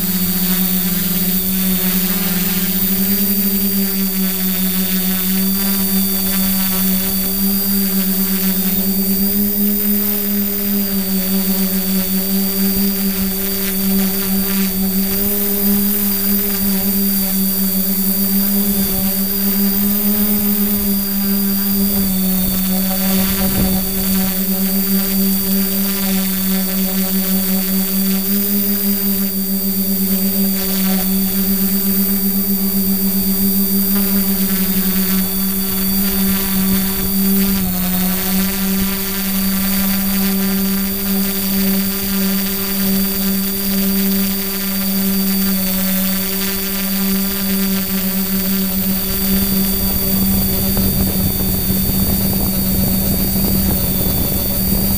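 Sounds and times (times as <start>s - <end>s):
drone motors humming and whining: 0.0s - 54.9s.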